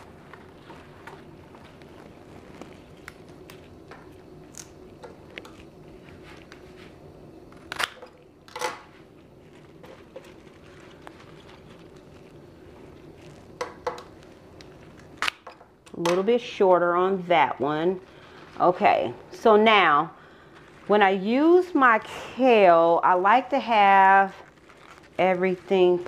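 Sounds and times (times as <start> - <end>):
flowers and foliage rustling: 0.0 - 15.3, 16.5 - 26.0.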